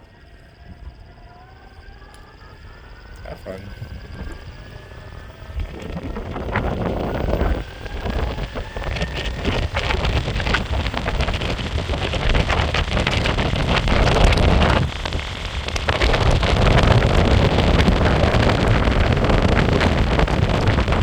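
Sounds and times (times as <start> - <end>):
ticks and clicks from road: 0.4 - 3.3, 3.9 - 21.0
wind buffeting microphone: 0.5 - 21.0
skateboard wheels rumbling on pavement: 2.8 - 21.0.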